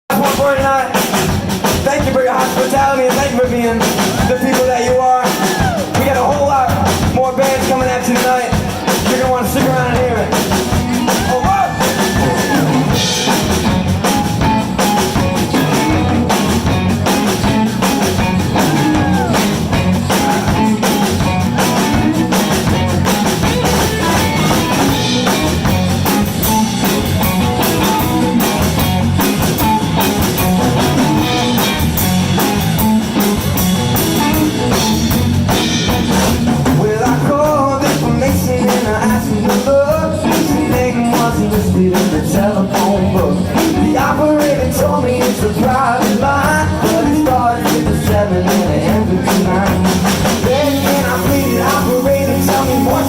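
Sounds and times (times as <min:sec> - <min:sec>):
drum kit: 0:00.1 - 0:53.0
electric guitar: 0:00.1 - 0:53.0.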